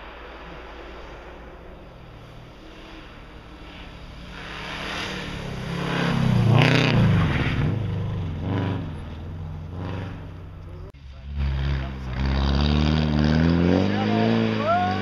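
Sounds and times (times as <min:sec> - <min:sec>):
rally car engine passing by: 0:00.0 - 0:15.0.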